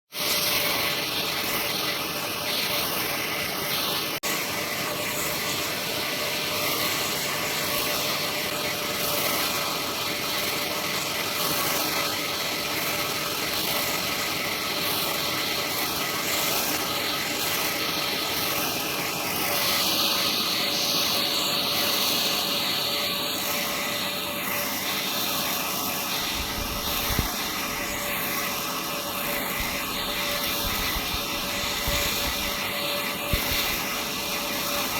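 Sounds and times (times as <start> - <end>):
band sawmill cutting log: 0.1 - 34.9.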